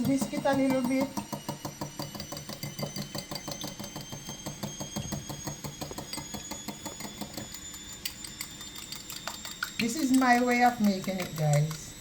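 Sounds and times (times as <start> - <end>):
whisk clinking against bowl: 0.0 - 12.0.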